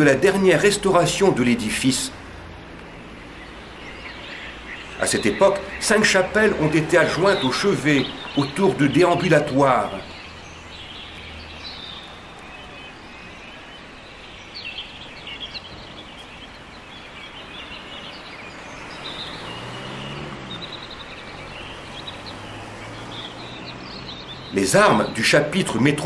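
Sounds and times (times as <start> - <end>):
small birds chirping: 0.0 - 26.0
steady background hush: 0.0 - 26.0.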